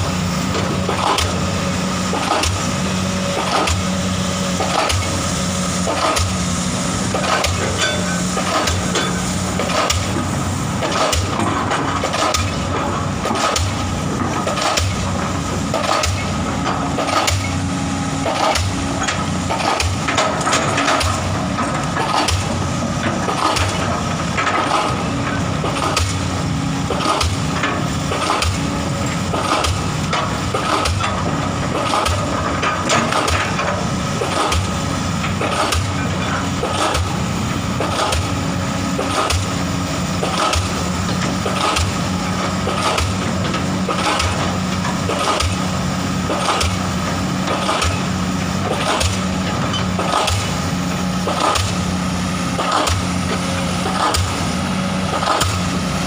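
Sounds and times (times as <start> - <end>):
excavator diesel engine running: 0.0 - 56.0
machine knocks and clanks: 0.4 - 3.9, 4.5 - 5.2, 7.1 - 51.9, 52.5 - 55.7.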